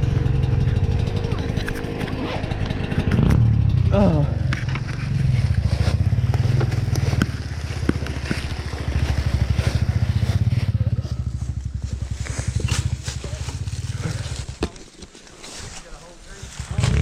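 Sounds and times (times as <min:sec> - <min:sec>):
dirt bike engine chugging: 0:00.0 - 0:14.9.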